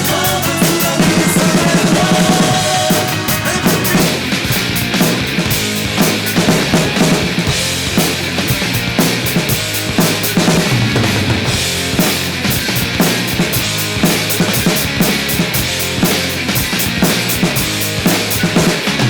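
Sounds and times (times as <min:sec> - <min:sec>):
electronic drum kit playing: 0:00.0 - 0:19.0
rock music: 0:00.0 - 0:19.0.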